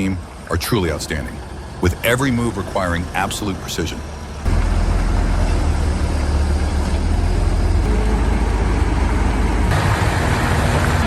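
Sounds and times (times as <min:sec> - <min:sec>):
road noise: 0:00.0 - 0:11.0
truck engine rumbling: 0:00.0 - 0:11.0.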